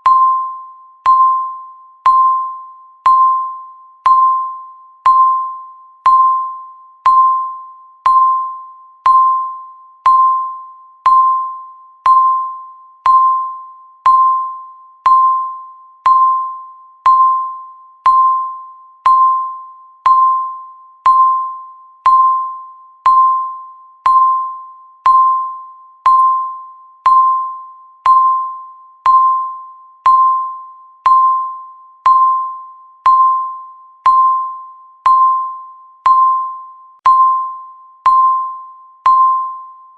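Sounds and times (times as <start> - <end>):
timer beep-ticks: 0.0 - 39.9.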